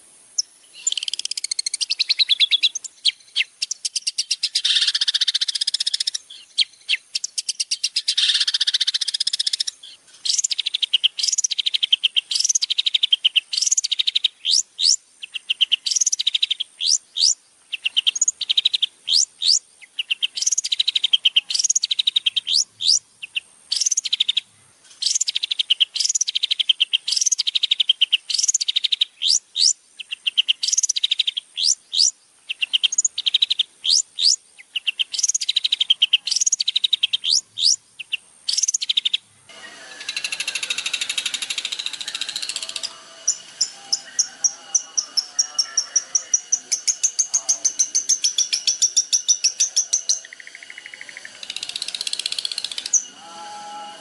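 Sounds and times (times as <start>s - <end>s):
bird singing and chattering: 0.4s - 53.2s.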